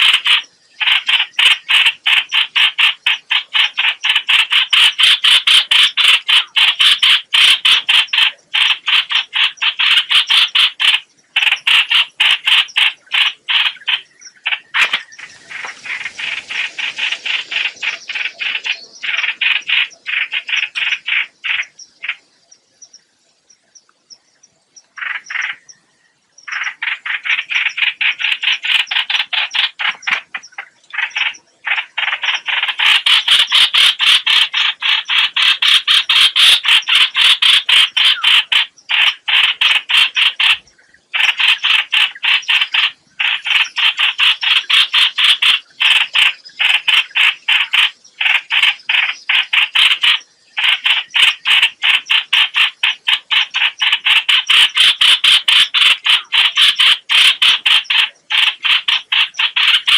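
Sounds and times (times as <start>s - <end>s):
bird lure call harsh croaking notes: 0.0s - 23.0s, 24.8s - 25.8s, 26.4s - 59.9s.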